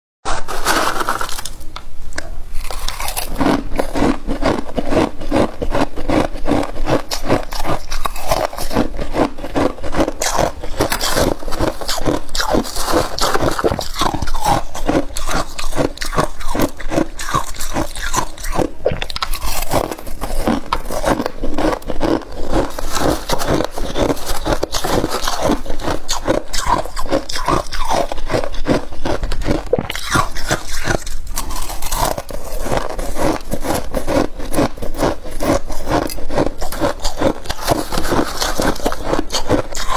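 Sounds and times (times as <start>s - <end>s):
freezer frost scraping and crunching: 0.2s - 39.9s.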